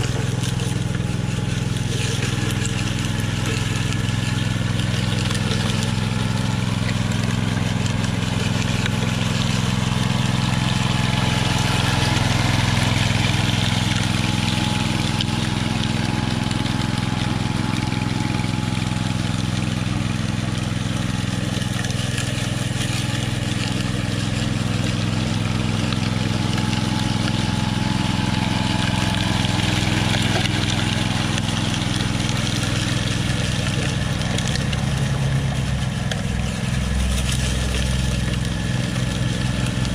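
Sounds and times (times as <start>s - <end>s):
power trowel engine running: 0.0s - 39.9s.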